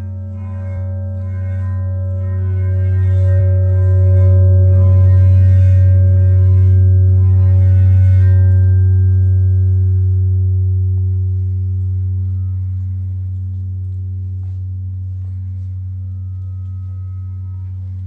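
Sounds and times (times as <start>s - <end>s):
mallet rubbing metal plate: 0.0s - 18.0s
metal plate ringing hum: 0.0s - 18.0s.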